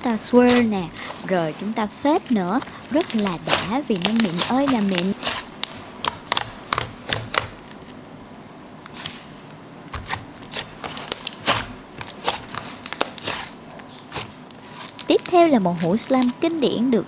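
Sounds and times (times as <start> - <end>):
slime crackling and popping: 0.0 - 17.0.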